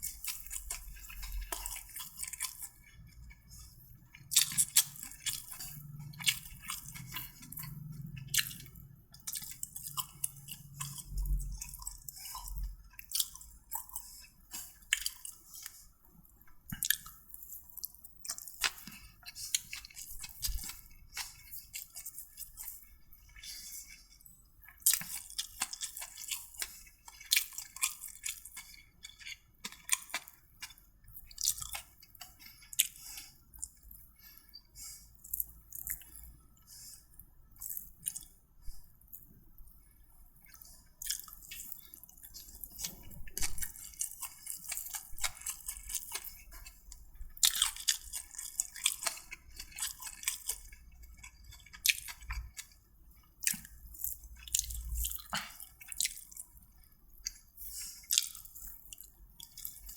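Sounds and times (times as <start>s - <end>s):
person chewing and smacking: 0.0s - 59.9s.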